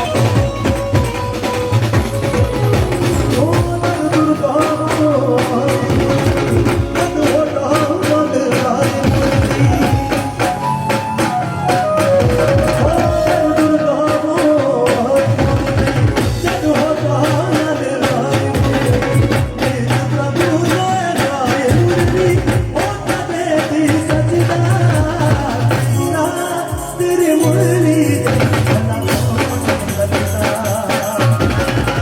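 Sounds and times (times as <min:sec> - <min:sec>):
fast hand percussion: 0:00.0 - 0:32.0.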